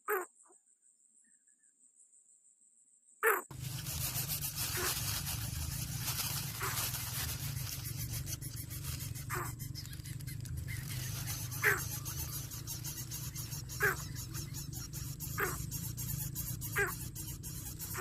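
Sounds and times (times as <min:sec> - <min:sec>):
short animal calls: 0:03.2 - 0:18.0.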